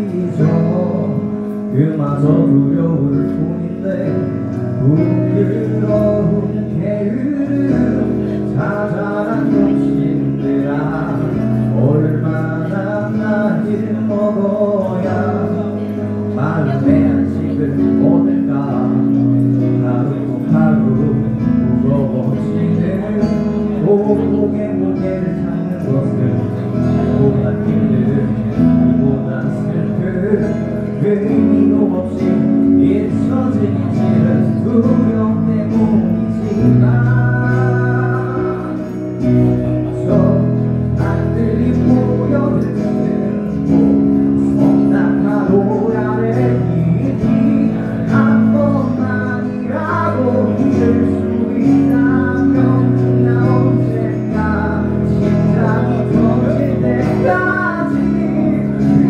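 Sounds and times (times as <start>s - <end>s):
acoustic guitar: 0.0s - 59.0s
bass guitar: 0.0s - 59.0s
keyboard: 0.0s - 59.0s
man singing: 0.0s - 59.0s.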